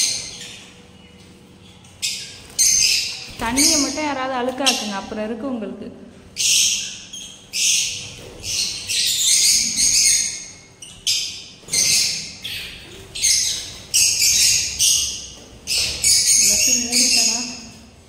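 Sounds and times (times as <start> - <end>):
birds chirping harshly: 0.0 - 5.2, 6.3 - 18.0.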